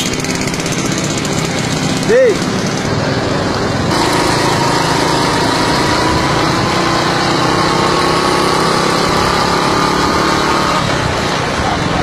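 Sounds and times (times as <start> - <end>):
small engines droning: 0.0 - 10.9.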